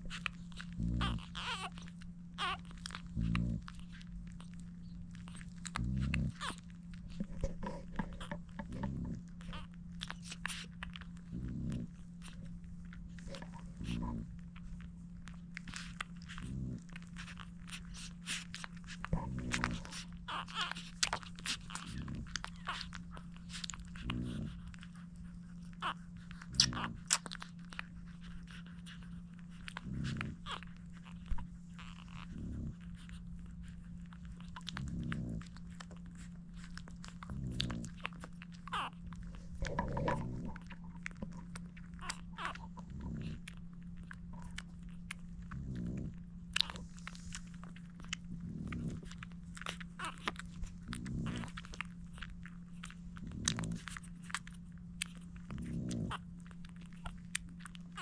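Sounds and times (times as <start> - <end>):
puppies sucking and smacking: 0.0 - 58.0
steady low hum: 0.0 - 58.0.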